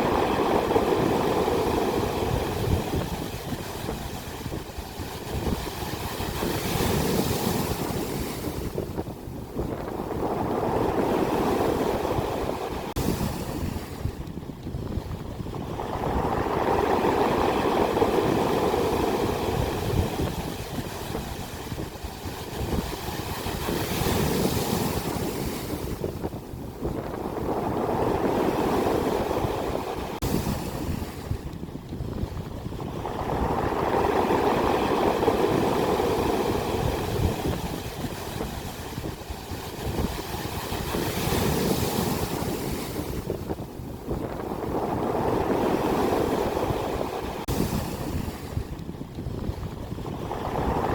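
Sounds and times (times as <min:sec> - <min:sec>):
ocean surf breaking: 0:00.0 - 0:14.3, 0:15.2 - 0:31.5, 0:32.3 - 0:50.9
wind rumbling on microphone: 0:00.0 - 0:50.9.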